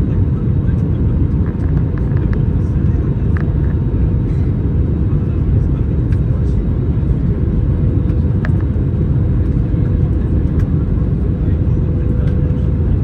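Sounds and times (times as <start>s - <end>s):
jet engine and airflow rumble: 0.0s - 13.0s.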